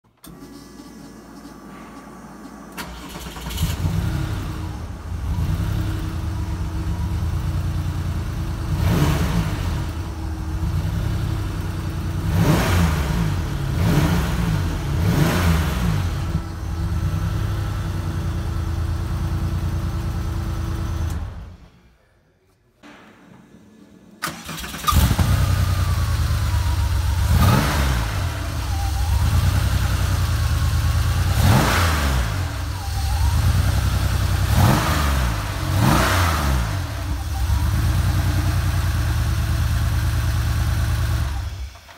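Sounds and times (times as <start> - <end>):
car engine starting and revving: 0.2 - 21.6, 24.2 - 41.9.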